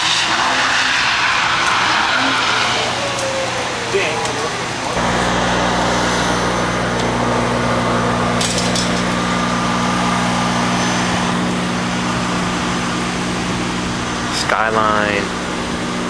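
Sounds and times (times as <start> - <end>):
constant hiss: 1.0 - 16.0
low mechanical hum: 2.5 - 16.0.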